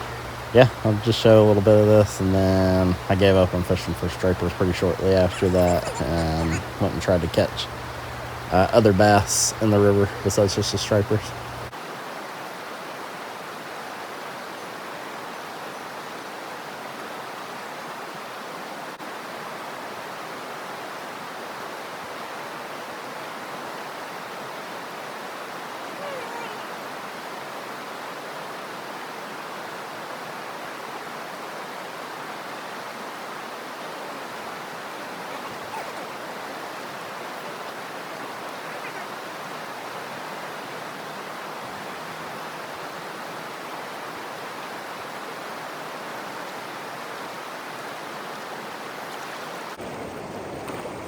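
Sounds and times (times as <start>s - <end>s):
river water rushing over shoal: 0.0s - 51.0s.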